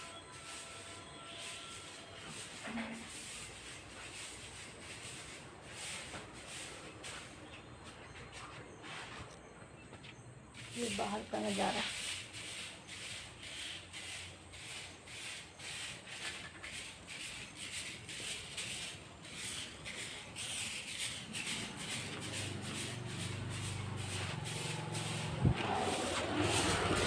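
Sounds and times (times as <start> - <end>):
broom sweeping concrete: 0.0 - 9.4, 10.5 - 27.0.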